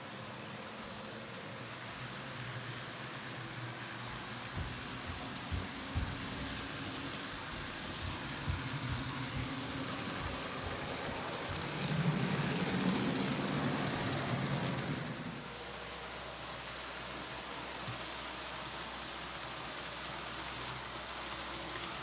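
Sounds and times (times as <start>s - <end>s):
model train whirring: 0.0s - 22.0s.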